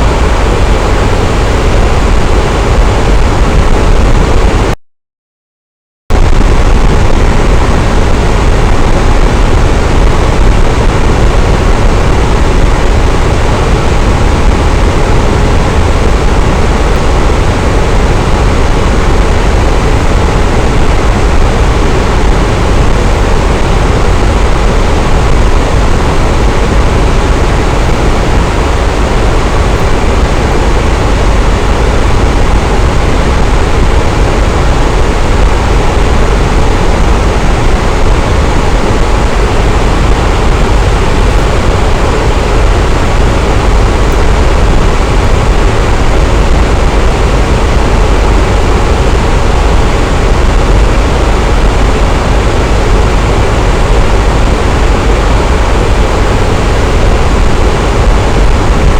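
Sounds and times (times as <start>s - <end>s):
electric fan running: 0.0s - 4.8s, 6.1s - 58.9s.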